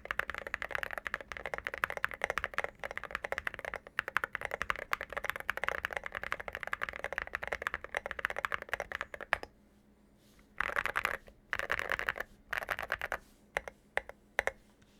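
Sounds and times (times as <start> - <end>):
mechanical keyboard typing: 0.0 - 9.5, 10.6 - 14.6.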